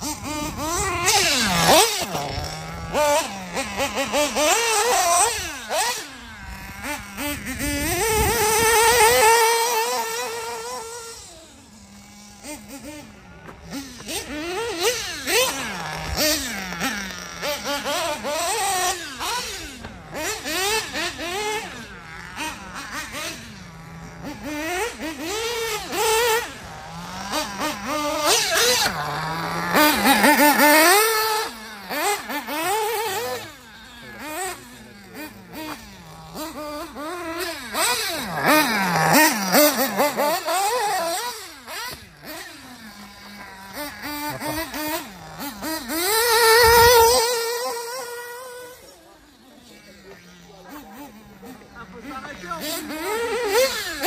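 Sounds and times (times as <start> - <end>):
model buggy engine revving: 0.0 - 54.0.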